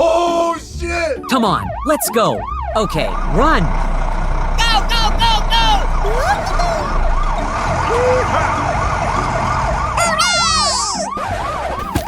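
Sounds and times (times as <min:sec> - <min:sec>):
siren in fast yelp: 0:01.2 - 0:03.7, 0:04.6 - 0:12.0.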